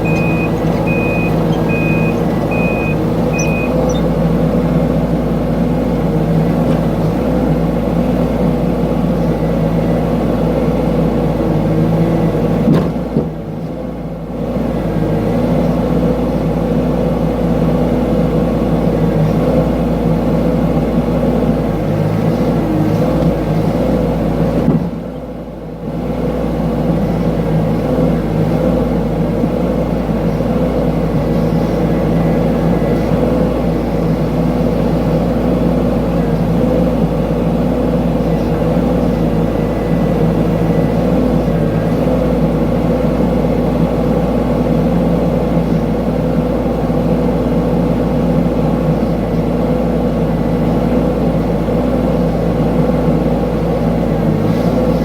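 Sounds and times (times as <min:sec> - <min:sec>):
mini excavator engine running: 0:00.0 - 0:55.0.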